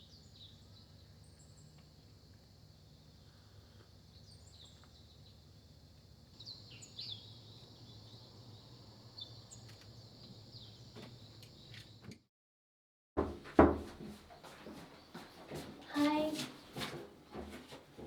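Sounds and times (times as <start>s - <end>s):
faint birds chirping: 0.0s - 12.2s, 14.3s - 18.0s.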